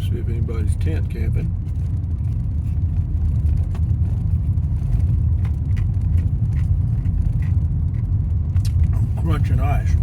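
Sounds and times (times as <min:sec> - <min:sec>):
low road rumble inside vehicle: 0:00.0 - 0:10.0.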